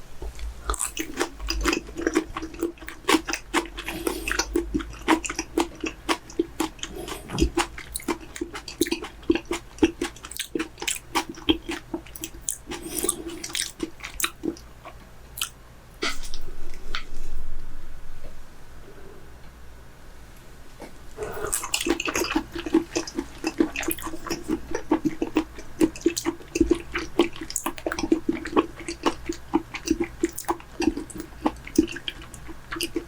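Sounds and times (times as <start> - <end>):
wet chewing and biting: 0.7 - 16.4, 21.2 - 33.0.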